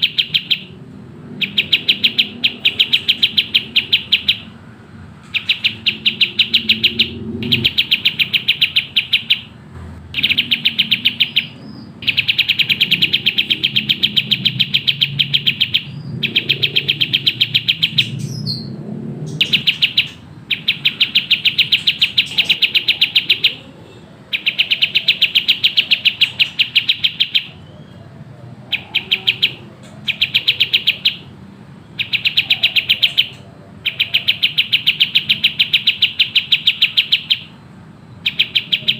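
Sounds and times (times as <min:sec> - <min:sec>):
bird singing rapid chirps: 0:00.0 - 0:38.9.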